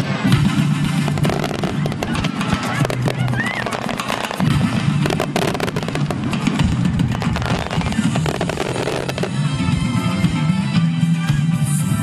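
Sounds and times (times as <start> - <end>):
fireworks bangs and crackles: 0.0 - 10.7
music: 0.0 - 12.0.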